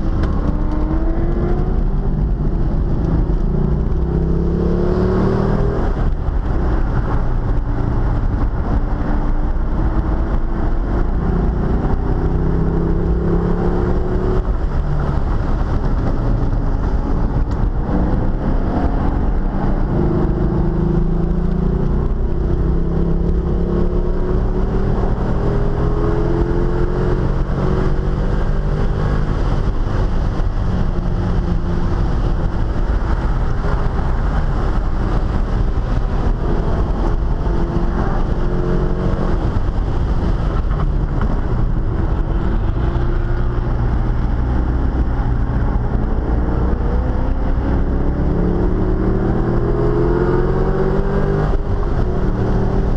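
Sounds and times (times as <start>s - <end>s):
car engine revving: 0.0s - 52.9s
wind and road noise: 0.0s - 52.9s.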